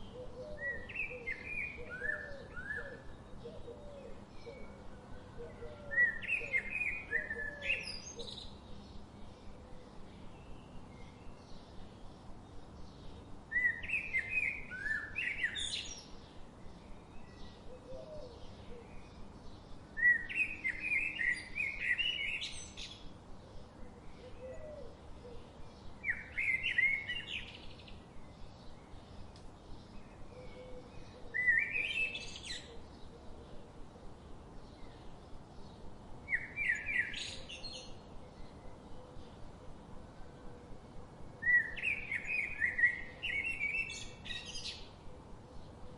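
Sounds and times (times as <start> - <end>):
quick chirping of birds: 0.0 - 40.0.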